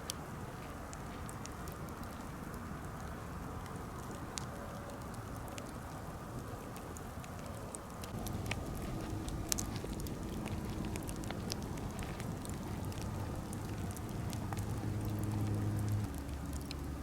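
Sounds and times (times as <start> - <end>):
campfire crackling pops: 0.0 - 17.0
low rush of flame: 0.0 - 17.0.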